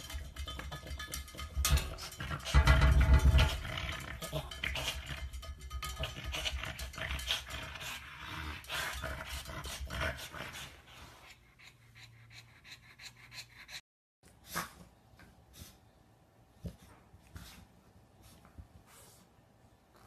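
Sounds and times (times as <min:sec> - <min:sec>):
dog panting and sniffing: 0:00.0 - 0:15.9, 0:16.5 - 0:19.5.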